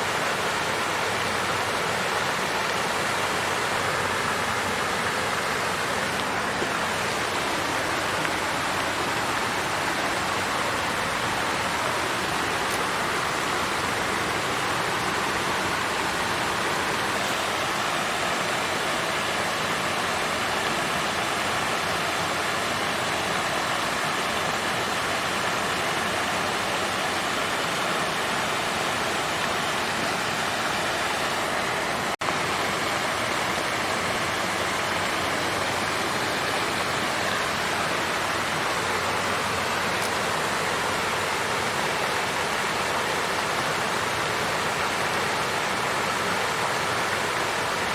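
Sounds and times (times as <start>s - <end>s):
fountain water splashing: 0.0s - 47.9s.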